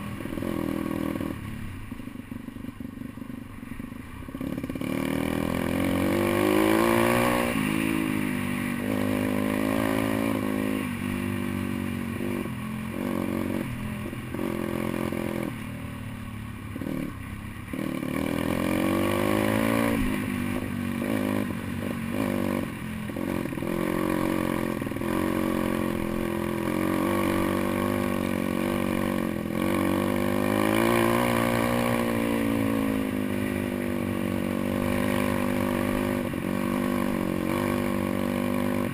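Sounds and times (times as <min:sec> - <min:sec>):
motorbike engine revving: 0:04.3 - 0:16.0, 0:16.7 - 0:38.9.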